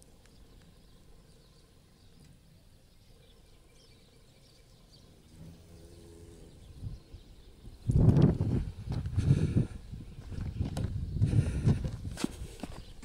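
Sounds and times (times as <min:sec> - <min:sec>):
low background noise: 0:00.0 - 0:11.7
faint low hum: 0:00.0 - 0:12.0.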